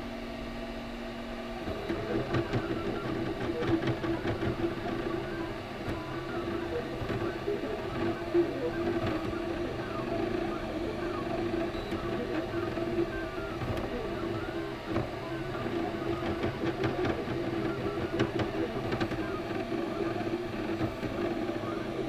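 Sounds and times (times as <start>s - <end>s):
steady machine hum: 0.0s - 22.0s
stepper motors whirring: 1.6s - 22.0s.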